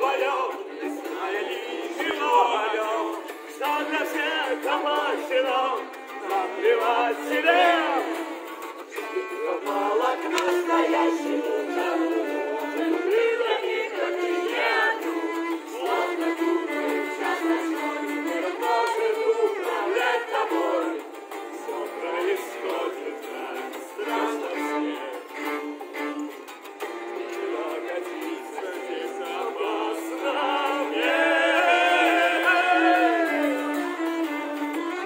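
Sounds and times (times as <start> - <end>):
cello played with a bow: 0.0 - 35.0
strummed acoustic guitar: 0.0 - 35.0.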